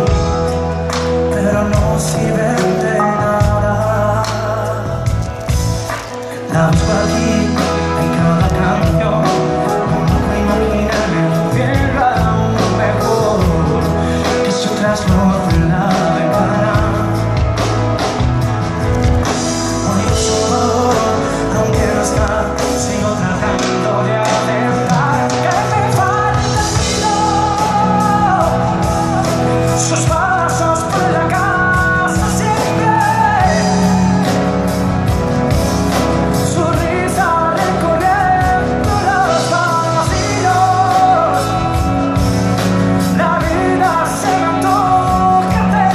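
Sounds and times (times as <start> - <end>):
live pop band music: 0.0 - 45.9
person singing: 0.0 - 45.9.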